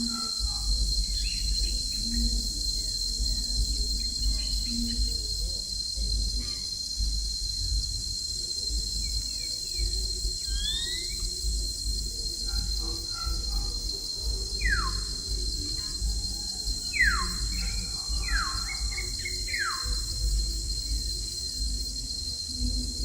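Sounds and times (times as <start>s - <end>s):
high insect buzz: 0.0s - 23.0s.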